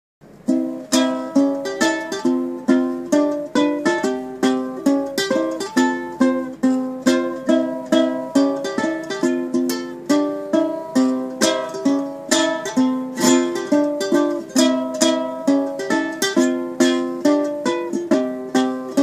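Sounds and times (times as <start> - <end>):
ukulele strumming: 0.2 - 19.0.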